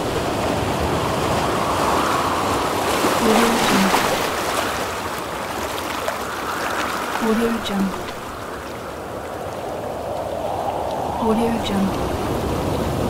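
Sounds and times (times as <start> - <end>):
sea waves washing on shore: 0.0 - 13.0
wind: 0.0 - 13.0.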